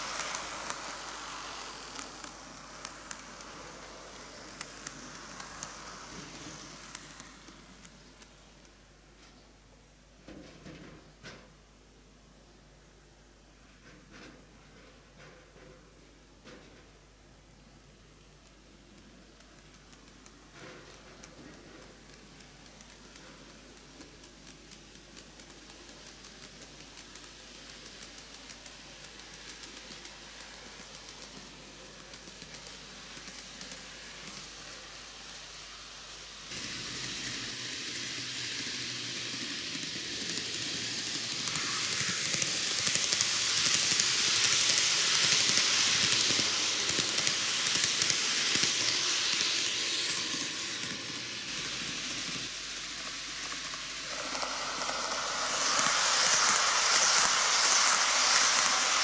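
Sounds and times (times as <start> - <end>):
model train motor hum: 0.0 - 8.8, 18.4 - 59.0
model train wheels on rails: 0.0 - 59.0.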